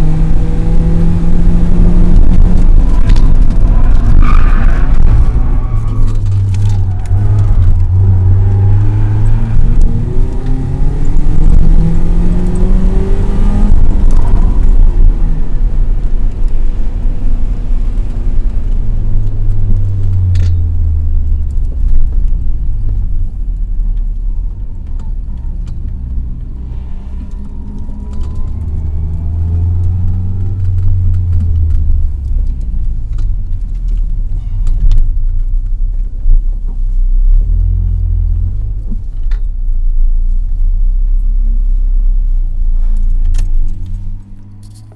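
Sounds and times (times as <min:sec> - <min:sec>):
car engine heard from cabin: 0:00.0 - 0:44.9.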